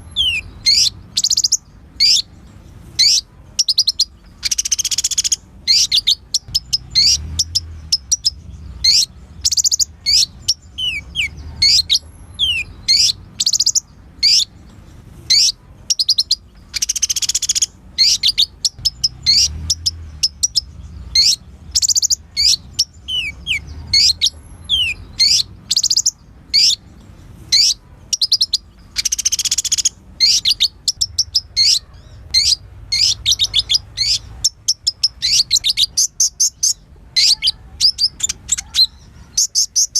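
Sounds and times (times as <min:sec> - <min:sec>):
bird trilling bursts: 0:00.0 - 0:14.6, 0:15.2 - 0:26.9, 0:27.5 - 0:39.9
sunbird chirping: 0:00.0 - 0:39.9.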